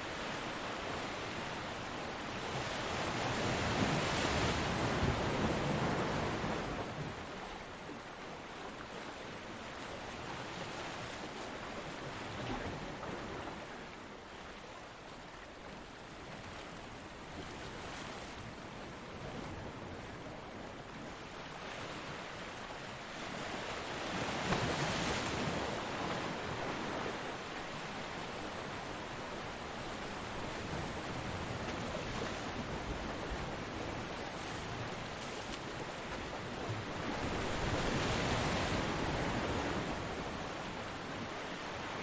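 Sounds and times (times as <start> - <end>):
waves breaking on beach: 0.0 - 42.0.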